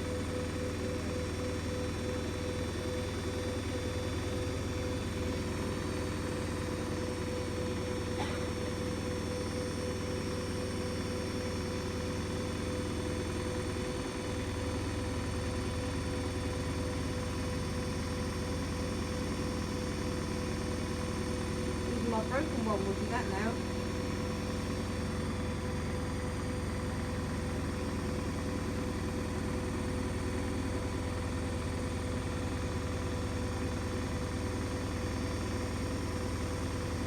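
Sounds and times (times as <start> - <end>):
motor whine: 0.0 - 37.0
washing machine hum: 0.0 - 37.0.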